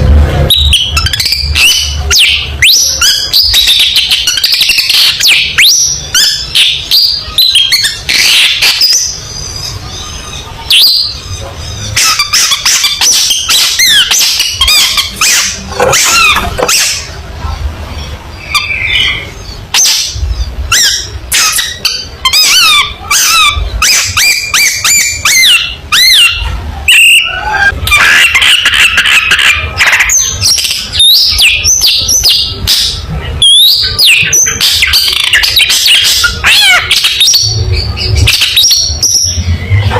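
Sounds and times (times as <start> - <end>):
bird singing whistles and chatter: 0.4 - 17.2, 18.3 - 39.9.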